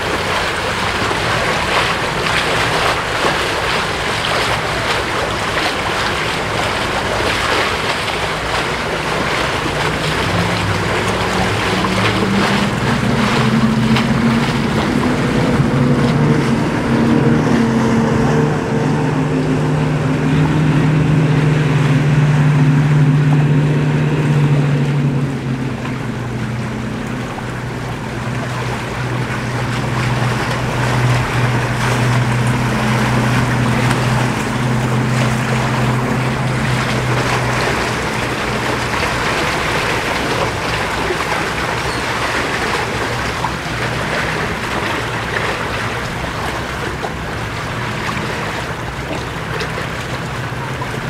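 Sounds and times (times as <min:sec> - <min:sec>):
outboard motors droning: 0:00.0 - 0:51.0
wind and water rushing: 0:00.0 - 0:51.0.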